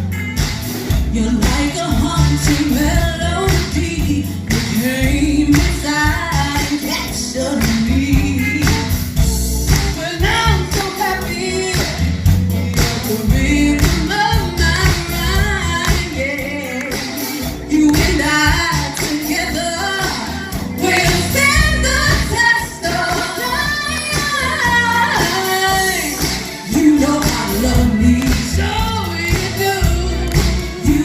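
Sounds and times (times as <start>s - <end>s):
band music with bass beat: 0.0s - 31.0s
women singing: 1.1s - 31.0s.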